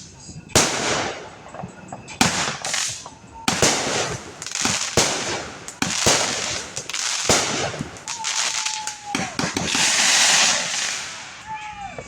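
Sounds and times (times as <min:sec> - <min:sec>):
fireworks bangs with crackling: 0:00.0 - 0:11.5.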